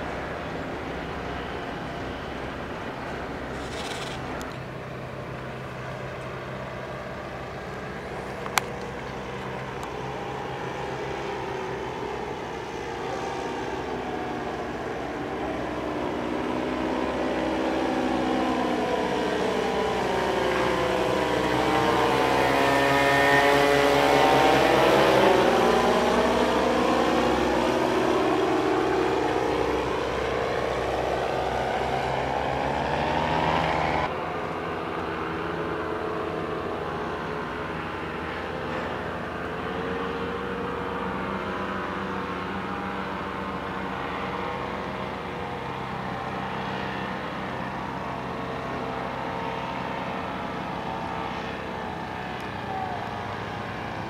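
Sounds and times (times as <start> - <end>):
paramotor engine and propeller drone: 0.0 - 54.0.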